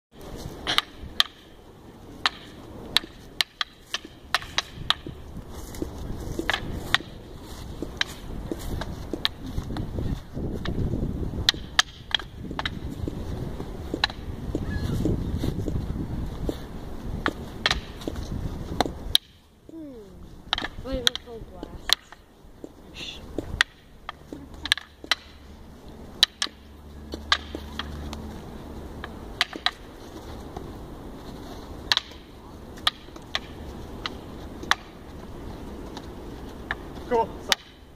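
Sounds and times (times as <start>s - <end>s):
wooden sticks clacking: 0.2s - 37.9s.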